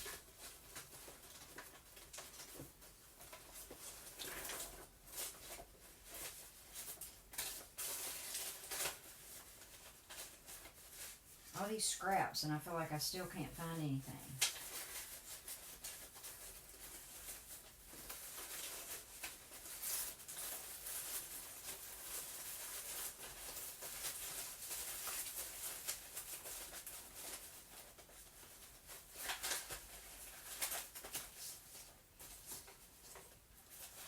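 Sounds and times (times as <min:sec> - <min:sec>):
paper rustling: 0:00.0 - 0:11.6, 0:13.5 - 0:34.0
paper crinkling: 0:00.0 - 0:12.1, 0:12.8 - 0:34.0.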